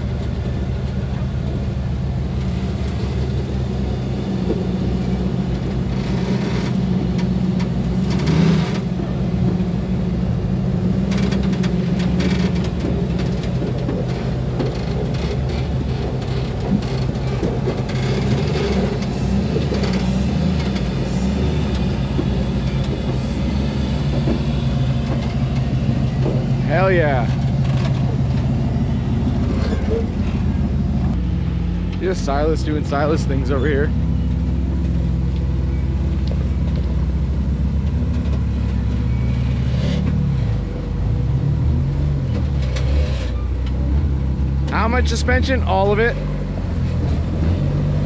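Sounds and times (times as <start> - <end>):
buggy engine running at low revs: 0.0 - 48.0.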